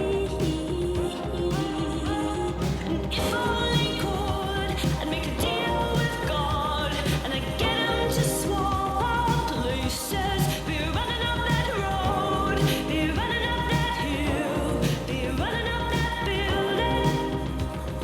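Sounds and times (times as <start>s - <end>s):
pop song with singing: 0.0s - 18.0s.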